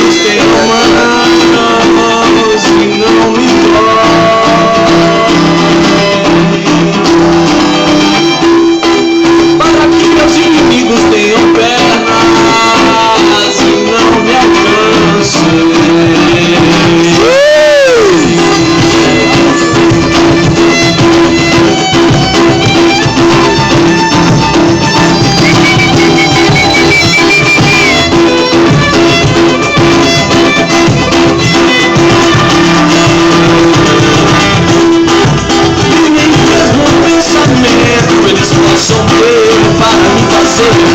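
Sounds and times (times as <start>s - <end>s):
instrumental street music: 0.0s - 40.9s
plucked string notes: 0.0s - 40.9s.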